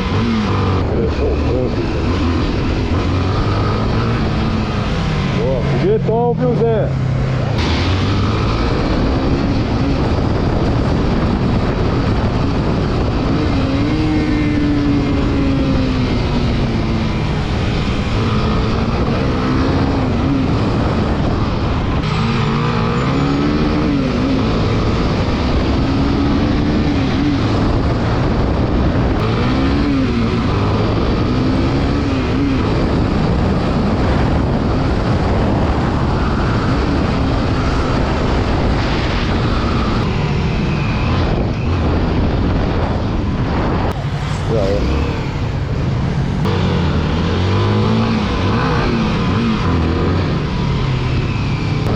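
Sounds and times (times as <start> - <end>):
motorcycle engine revving: 0.0 - 51.9
rush of riding wind: 0.0 - 51.9.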